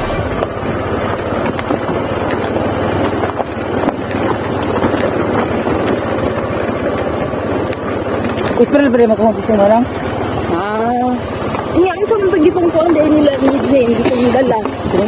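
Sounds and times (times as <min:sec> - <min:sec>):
knocks and rattles from bumpy ride: 0:00.0 - 0:15.0
vehicle engine running: 0:00.0 - 0:15.0.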